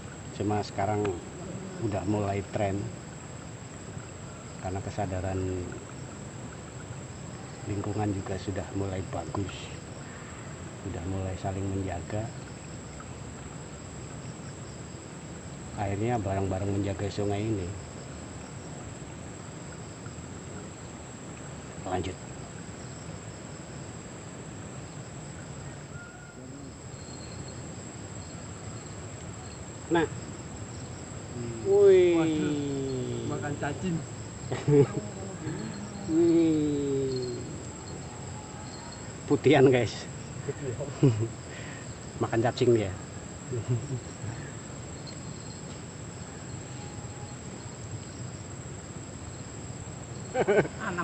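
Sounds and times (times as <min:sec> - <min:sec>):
insects trilling: 0:00.0 - 0:51.0
outdoor background hiss: 0:00.0 - 0:51.0.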